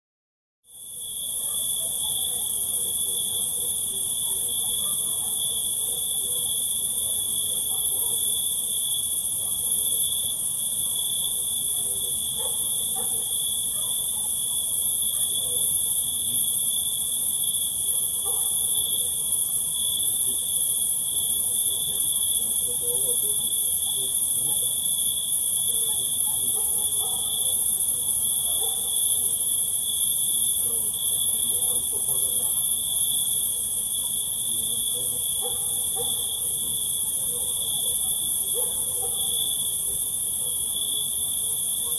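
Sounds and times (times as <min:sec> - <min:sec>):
crickets chirping chorus: 0:00.7 - 0:41.9.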